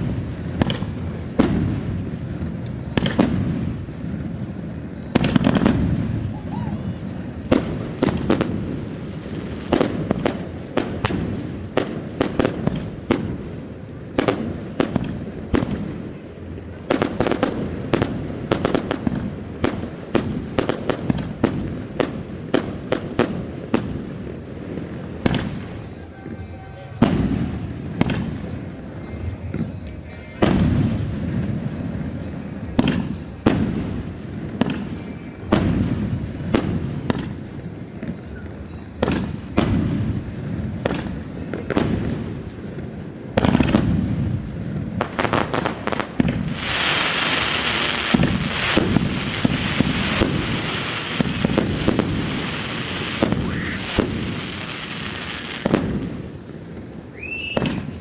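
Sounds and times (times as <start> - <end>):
fireworks bangs with rumbling echo: 0.0 - 58.0
fireworks crackle: 0.0 - 58.0.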